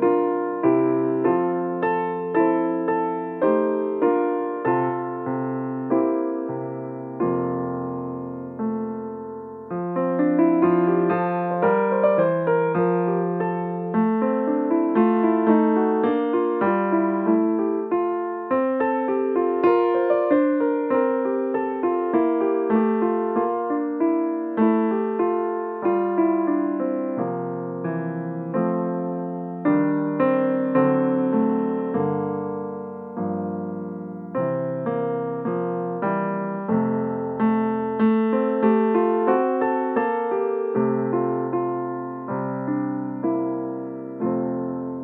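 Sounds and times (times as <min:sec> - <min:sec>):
piano playing: 0:00.0 - 0:45.0.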